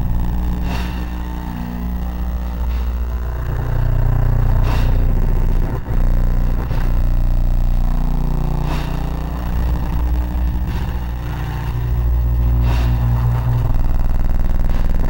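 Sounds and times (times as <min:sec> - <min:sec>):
electronic noise drone: 0:00.0 - 0:15.0.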